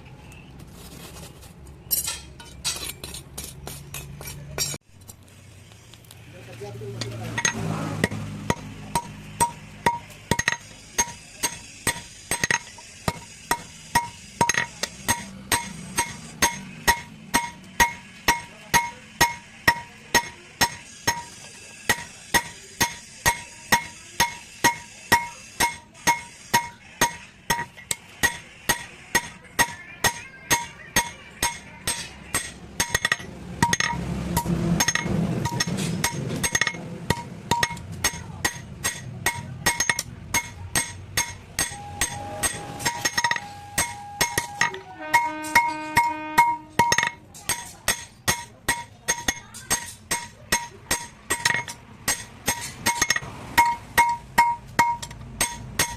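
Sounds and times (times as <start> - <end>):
hammer ringing on anvil: 7.4 - 55.9.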